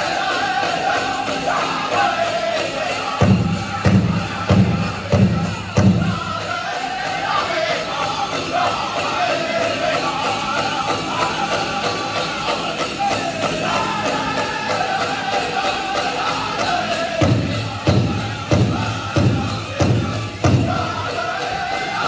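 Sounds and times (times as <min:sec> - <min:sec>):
drumbeats: 0:00.0 - 0:22.0
group singing in high voices: 0:00.0 - 0:22.0.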